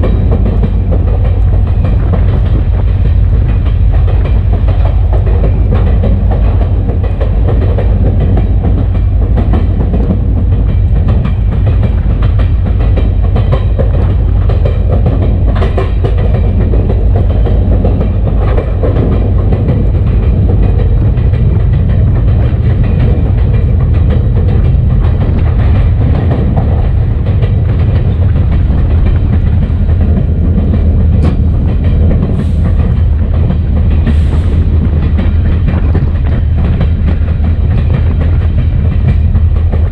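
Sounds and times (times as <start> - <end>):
locomotive engine rumbling: 0.0 - 39.9
train wheels clattering over rail: 0.0 - 39.9.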